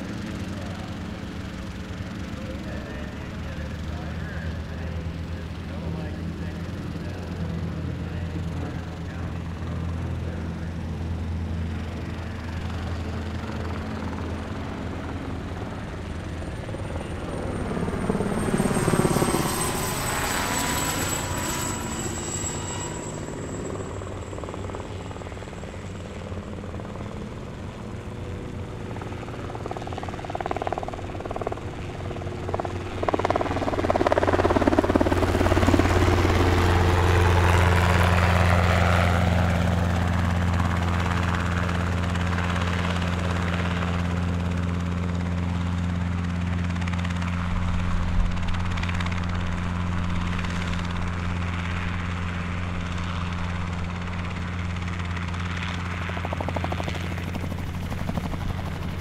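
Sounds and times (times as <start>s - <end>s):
helicopter engines and rotors droning: 0.0s - 59.0s
high engine whine: 0.0s - 59.0s.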